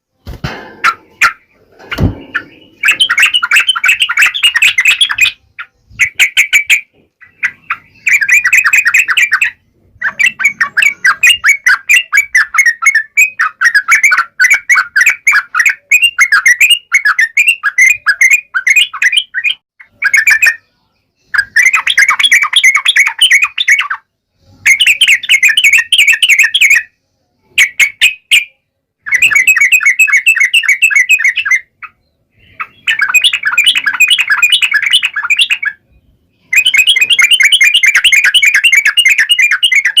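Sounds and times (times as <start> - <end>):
bulbul singing: 0.3 - 40.0.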